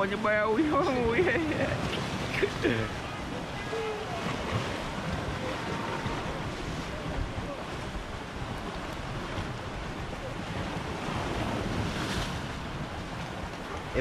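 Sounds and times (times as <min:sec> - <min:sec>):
surf breaking on rocks: 0:00.0 - 0:14.0
wind buffeting microphone: 0:00.0 - 0:14.0.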